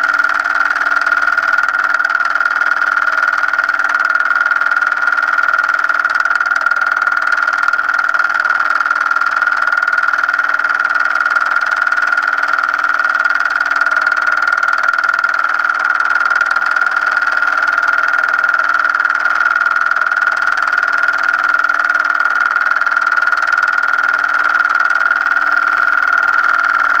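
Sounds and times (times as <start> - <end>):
film projector whirring: 0.0 - 27.0
high-pitched whine: 0.0 - 27.0.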